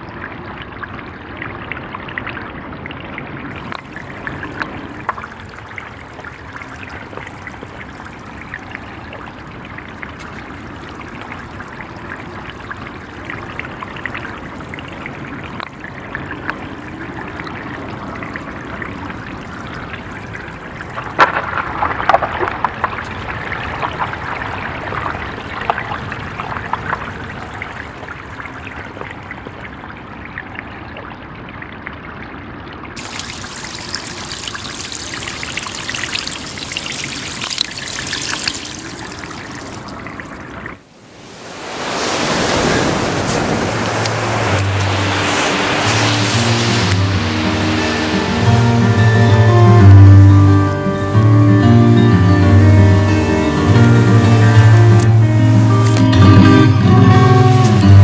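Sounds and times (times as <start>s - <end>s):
loud water splashing: 3.5s - 30.4s, 33.0s - 58.0s
shallow water trickling: 3.5s - 31.0s, 33.0s - 58.0s
small water drips: 3.5s - 31.2s, 33.0s - 50.9s, 53.5s - 56.2s.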